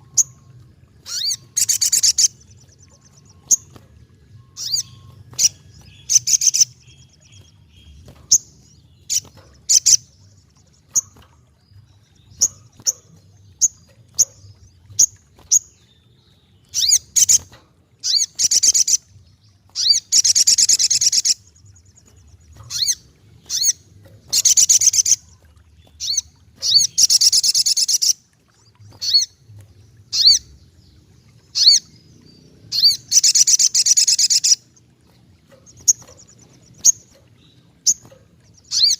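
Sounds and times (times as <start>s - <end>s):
sunbird chattering song: 0.0s - 19.1s, 19.8s - 28.2s, 30.1s - 34.9s, 35.5s - 38.9s.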